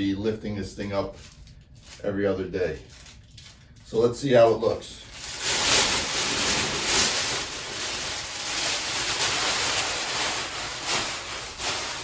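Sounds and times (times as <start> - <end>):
packaging rustling: 0.8 - 12.0.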